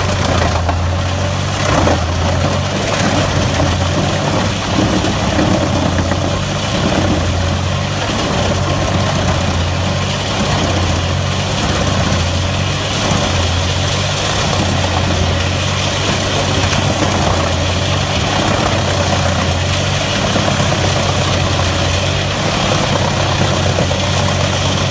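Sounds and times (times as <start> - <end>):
heavy machine engine running: 0.0 - 24.9.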